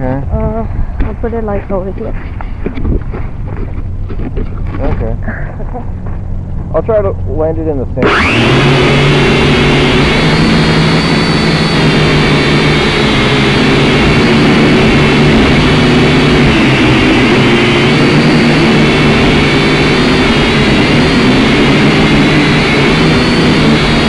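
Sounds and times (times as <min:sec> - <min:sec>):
drone propellers buzzing whine: 0:00.0 - 0:24.0.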